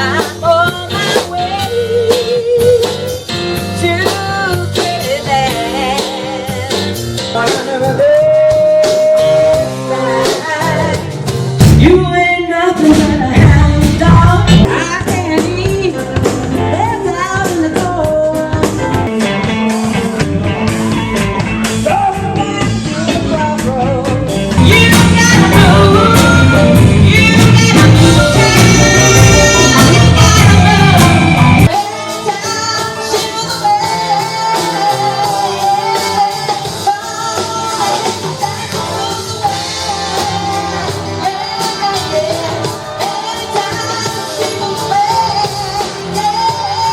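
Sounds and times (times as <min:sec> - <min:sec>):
rock and roll band with singer: 0:00.0 - 0:46.9.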